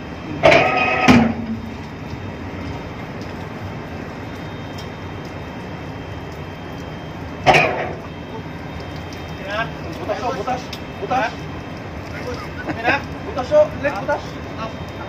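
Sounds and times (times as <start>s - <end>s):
deck machinery rumbling: 0.0s - 15.0s.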